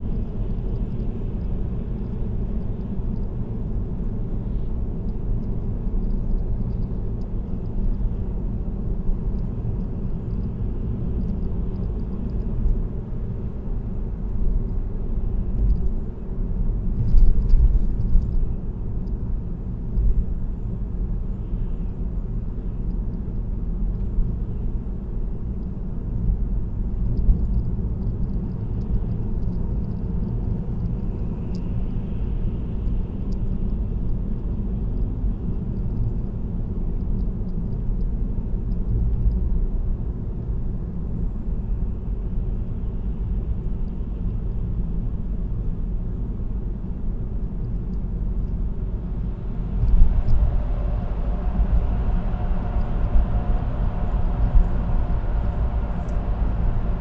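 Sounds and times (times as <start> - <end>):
car road and tyre noise: 0.0 - 57.0.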